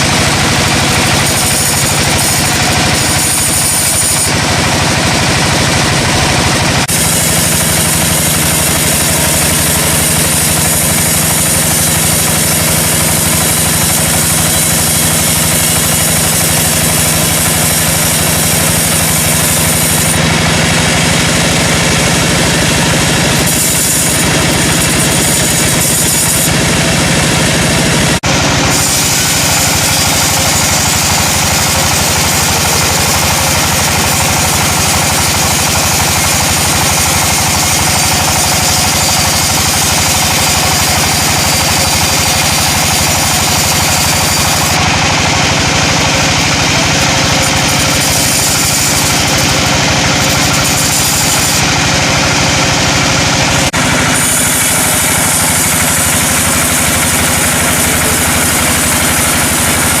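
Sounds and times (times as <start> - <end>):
engine running steadily: 0.0 - 60.0.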